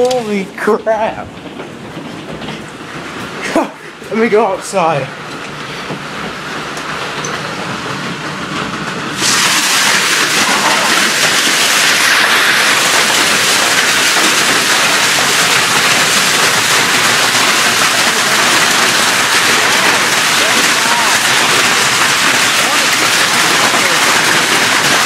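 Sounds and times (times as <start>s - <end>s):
heavy rain and hail: 0.0s - 25.0s.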